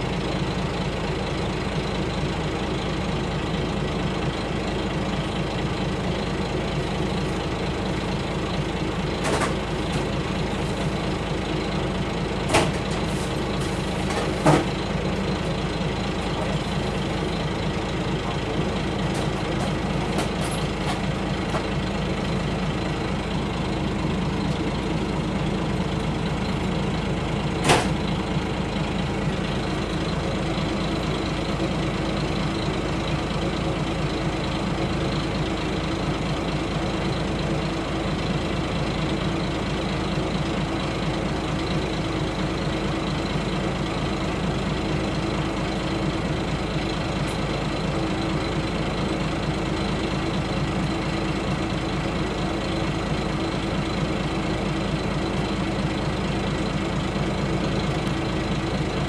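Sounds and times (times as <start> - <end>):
diesel railcar engine idling: 0.0 - 59.0.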